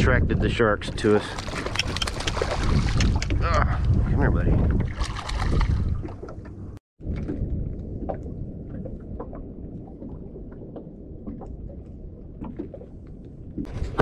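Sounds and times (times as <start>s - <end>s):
water lapping against boat hull: 0.2s - 14.0s.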